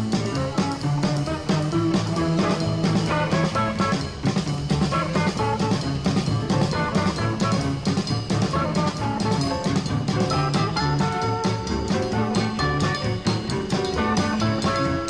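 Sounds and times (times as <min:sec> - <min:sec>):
drums with steady beat: 0:00.0 - 0:15.0
electric guitars: 0:00.0 - 0:15.0.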